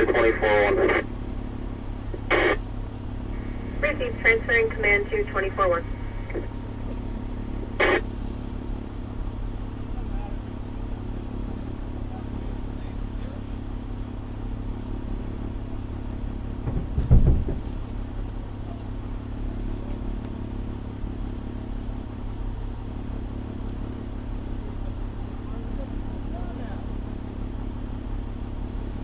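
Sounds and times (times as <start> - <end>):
diesel engine humming: 0.0 - 29.0.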